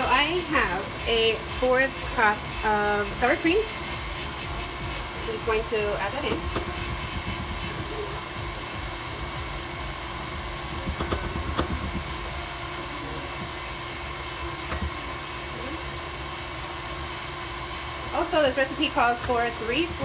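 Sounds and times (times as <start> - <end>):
stand mixer motor humming: 0.0 - 20.0.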